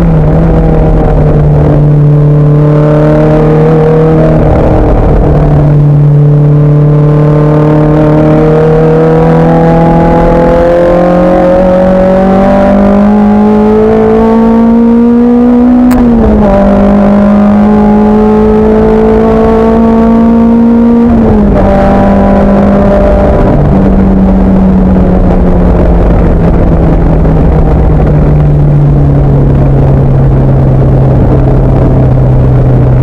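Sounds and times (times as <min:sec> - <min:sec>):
race car engine pulling hard: 0:00.0 - 0:33.0.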